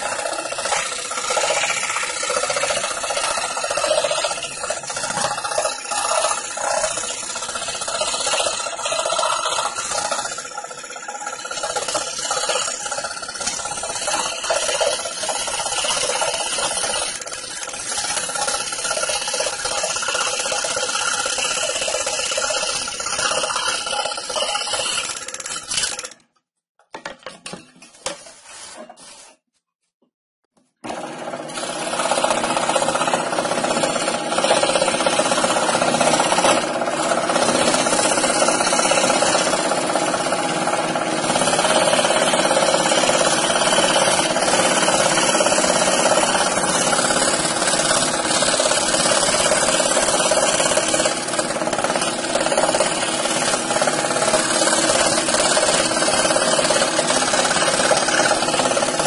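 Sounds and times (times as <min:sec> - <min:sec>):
scroll saw cutting plywood: 0:00.0 - 0:26.2, 0:30.8 - 0:59.0.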